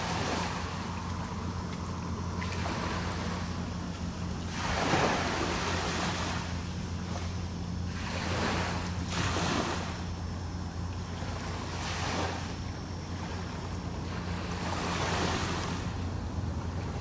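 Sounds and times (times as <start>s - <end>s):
waves breaking and washing in: 0.0s - 17.0s
wind rumble on microphone: 0.0s - 17.0s.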